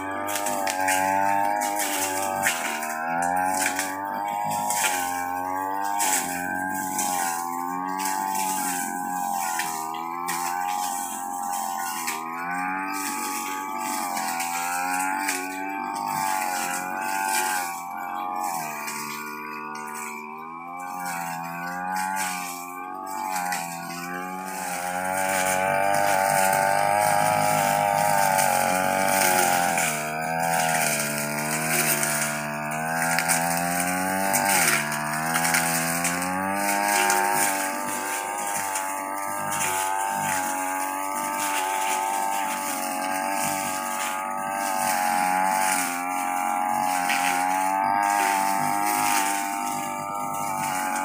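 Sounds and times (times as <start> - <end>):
brush cutter engine running: 0.0 - 51.0.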